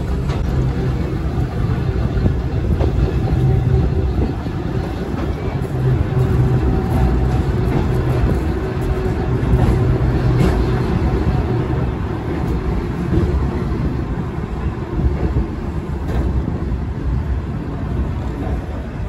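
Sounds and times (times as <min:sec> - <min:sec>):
railway car rumbling on track: 0:00.0 - 0:19.0.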